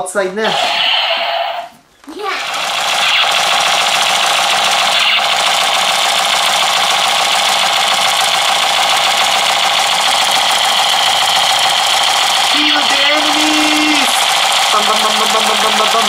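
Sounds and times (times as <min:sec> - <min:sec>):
toy machine gun firing: 0:00.4 - 0:01.7, 0:02.3 - 0:16.0.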